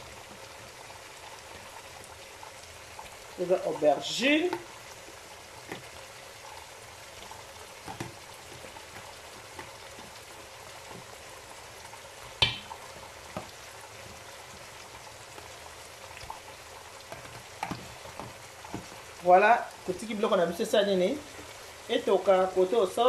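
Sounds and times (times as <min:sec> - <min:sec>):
vegetables sizzling in a pot: 0:00.0 - 0:23.0.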